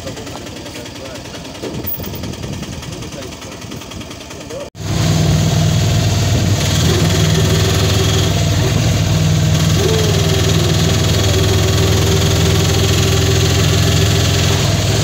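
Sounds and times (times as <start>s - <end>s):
auto-rickshaw engine humming: 0.0s - 15.0s.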